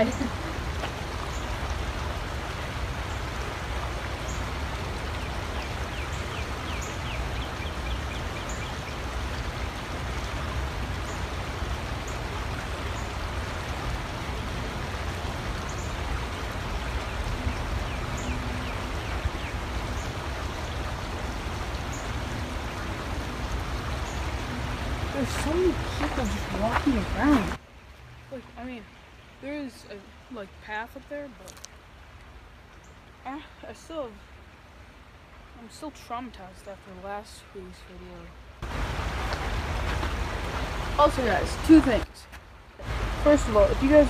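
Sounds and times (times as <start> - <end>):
creek water flowing: 0.0 - 44.0.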